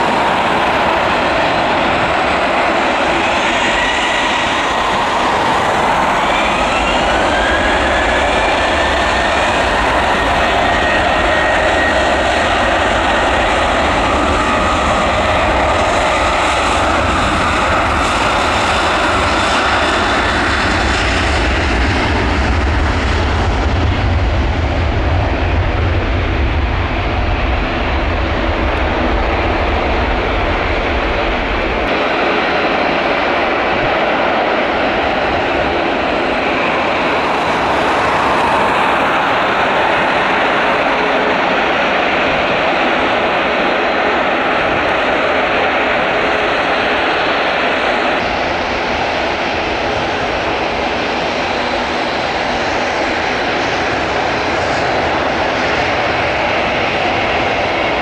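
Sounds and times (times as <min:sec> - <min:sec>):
jet engine roar: 0:00.0 - 0:58.0
jet engines spooling up whine: 0:00.0 - 0:58.0.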